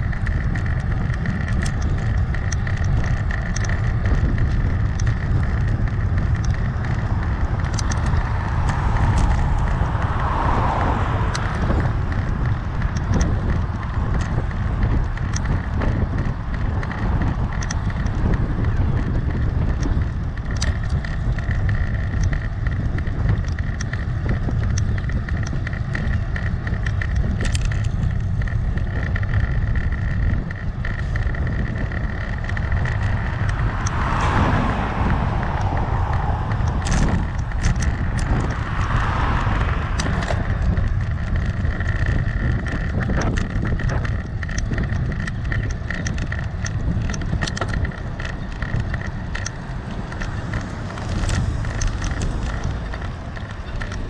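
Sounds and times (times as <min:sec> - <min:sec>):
small clicks and knocks: 0:00.0 - 0:54.0
steady rumble: 0:00.0 - 0:54.0
vehicles passing: 0:00.0 - 0:54.0
wind rushing over microphone: 0:00.0 - 0:54.0.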